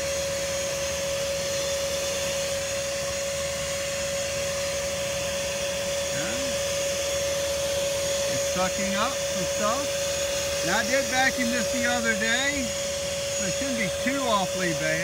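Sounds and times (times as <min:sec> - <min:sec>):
pond vacuum whining: 0:00.0 - 0:15.0.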